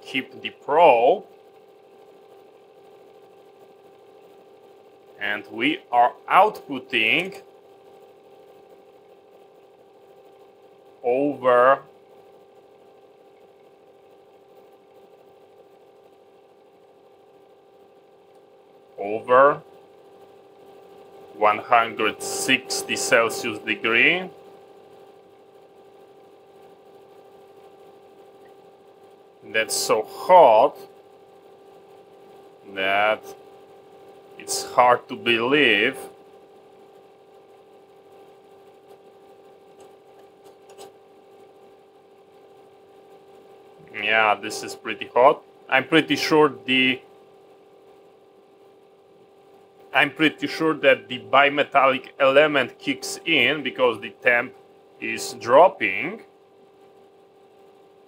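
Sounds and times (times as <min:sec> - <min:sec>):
fan heater humming: 0:00.0 - 0:58.0.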